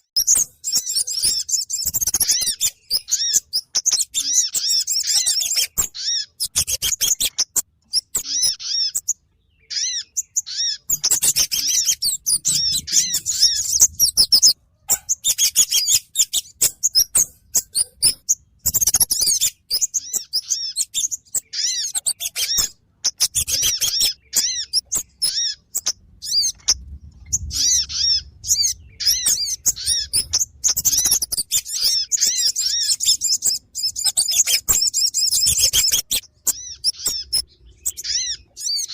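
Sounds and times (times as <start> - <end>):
songbirds twittering chirps: 0.0 - 38.9.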